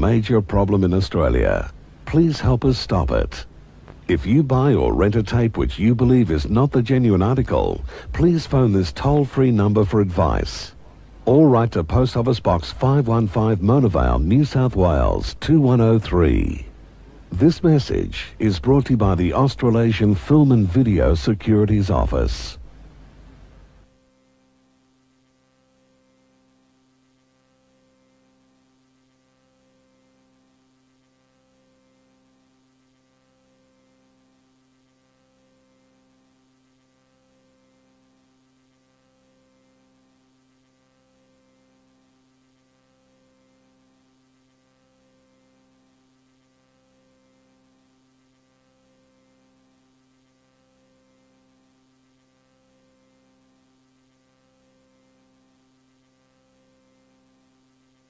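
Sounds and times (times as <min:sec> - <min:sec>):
faint electrical hum: 0:00.0 - 0:58.0.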